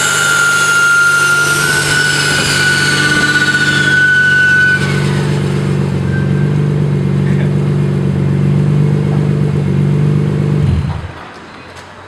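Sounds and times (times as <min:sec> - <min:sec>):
car engine running on dyno: 0:00.0 - 0:11.2
high falling whine: 0:00.0 - 0:11.2.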